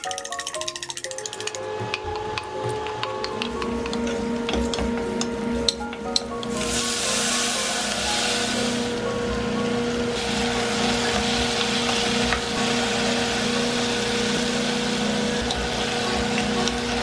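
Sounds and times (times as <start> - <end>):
mechanical hum with hiss: 2.1 - 17.0.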